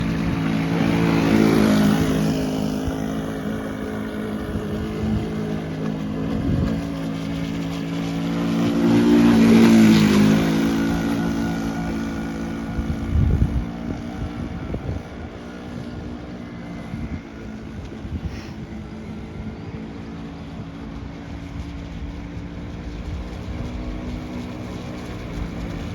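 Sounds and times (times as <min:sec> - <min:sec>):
model boat engine running: 0:00.0 - 0:25.9
wind buffeting microphone: 0:00.0 - 0:25.9.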